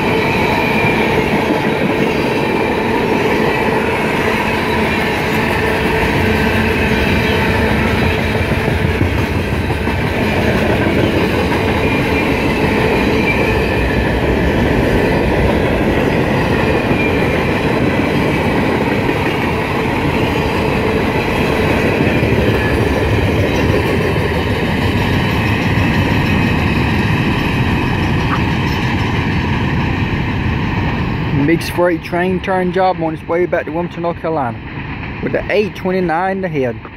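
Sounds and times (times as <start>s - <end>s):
freight train wheels clattering: 0.0s - 31.1s.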